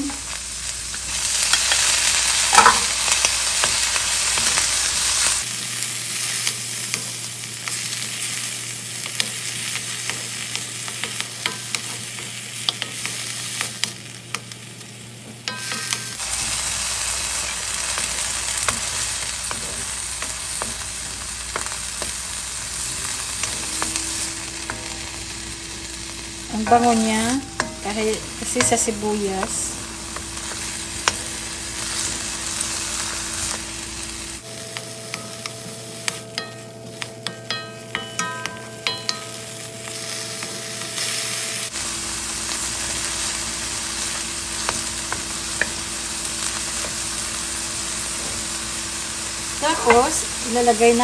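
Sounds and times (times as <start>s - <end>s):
vegetables sizzling in oil: 0.0s - 51.0s.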